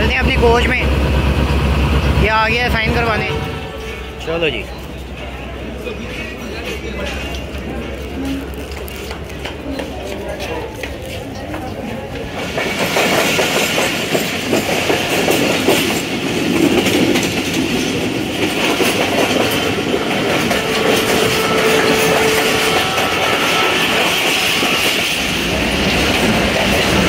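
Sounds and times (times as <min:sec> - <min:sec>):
train wheel and rail noise: 0:00.0 - 0:27.0.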